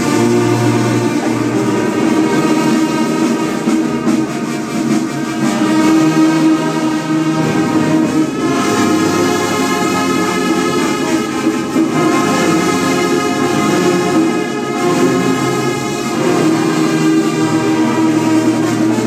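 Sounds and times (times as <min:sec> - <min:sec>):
brass band playing loud chords: 0:00.0 - 0:19.0
drums: 0:00.0 - 0:19.0.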